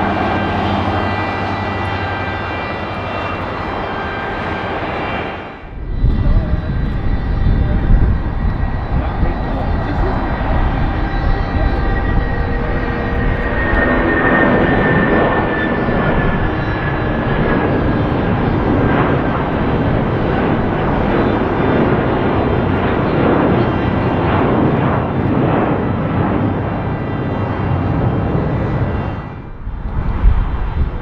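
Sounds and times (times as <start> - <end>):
high engine whine: 0.0 - 31.0
jet airliner engines roaring: 0.0 - 31.0.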